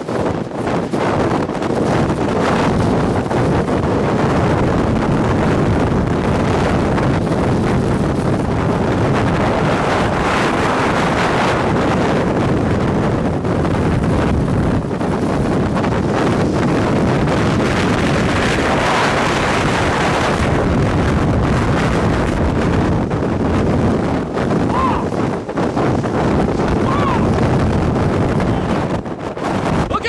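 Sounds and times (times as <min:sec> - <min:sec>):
strong wind on microphone: 0:00.0 - 0:30.0.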